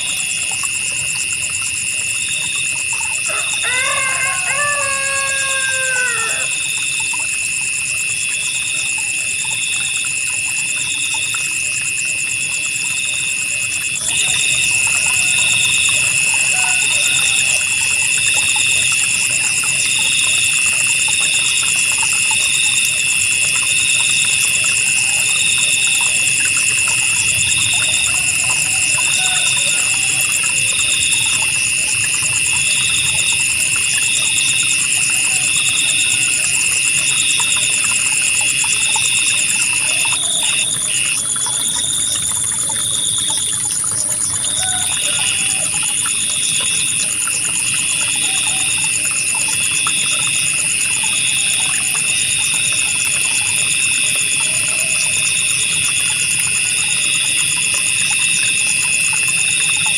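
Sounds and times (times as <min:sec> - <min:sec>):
crickets trilling: 0:00.0 - 0:59.9
loud steady insect trill: 0:00.0 - 0:59.9
pulsing insect chirp: 0:00.0 - 0:59.9.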